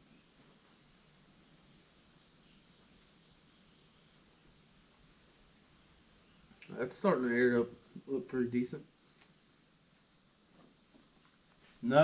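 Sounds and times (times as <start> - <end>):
faint insects chirping: 0.0 - 12.0.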